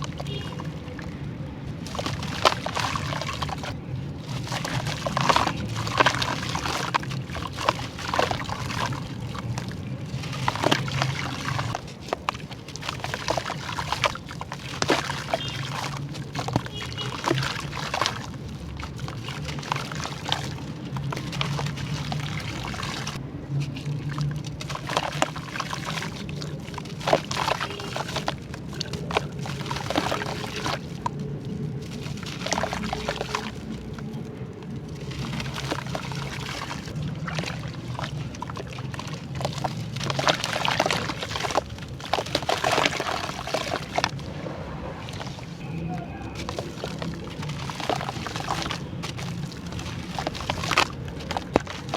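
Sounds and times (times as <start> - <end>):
water pouring and trickling: 0.0 - 51.9
wet charcoal crackling and crunching: 0.0 - 51.9.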